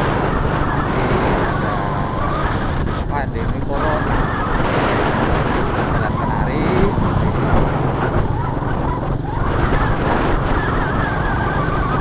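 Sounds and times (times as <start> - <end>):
motorcycle engine running: 0.0 - 12.0
wind rumbling on microphone: 0.0 - 12.0.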